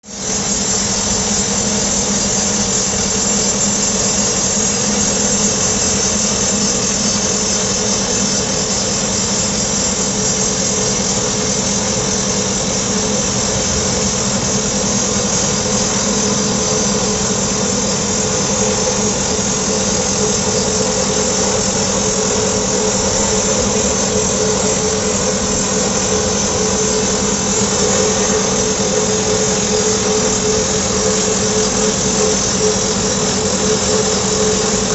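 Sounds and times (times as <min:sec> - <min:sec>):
steady whine: 0:00.0 - 0:34.9
engine noise: 0:00.1 - 0:34.9.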